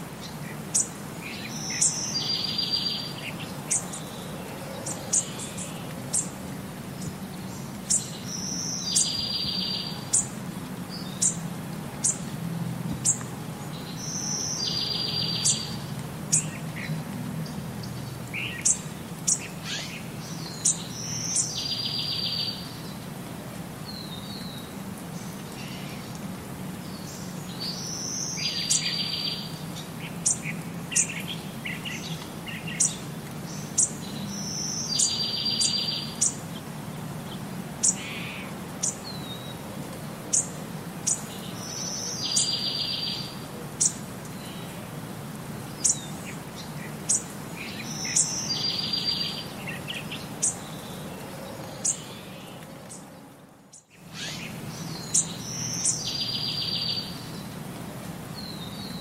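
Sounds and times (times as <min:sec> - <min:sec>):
rain hiss: 0:00.0 - 0:59.0
songbird singing trill: 0:00.2 - 0:11.4, 0:12.0 - 0:12.3, 0:13.0 - 0:23.0, 0:26.8 - 0:39.6, 0:40.3 - 0:44.8, 0:45.7 - 0:53.1, 0:53.7 - 0:57.6, 0:58.4 - 0:59.0.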